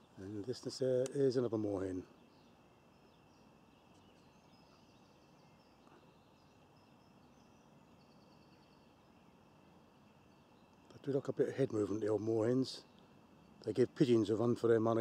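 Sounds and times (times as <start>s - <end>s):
faint distant birdsong: 0.0s - 15.0s
low background hiss: 0.0s - 15.0s.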